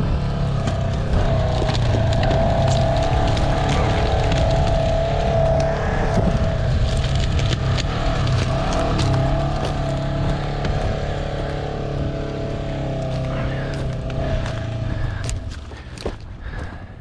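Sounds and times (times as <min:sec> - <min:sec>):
utility vehicle engine running: 0:00.0 - 0:17.0
sticks cracking under tyres: 0:00.3 - 0:16.8.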